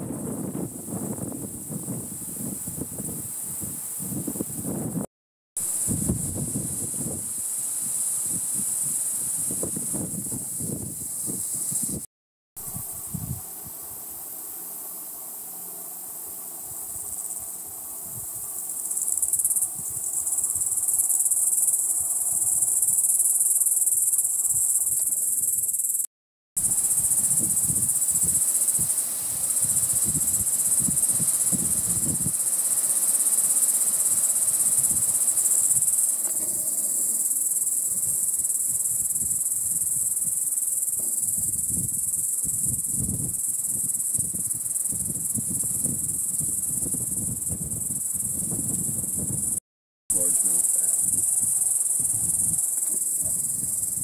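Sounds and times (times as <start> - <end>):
insects buzzing: 0.1 - 54.0.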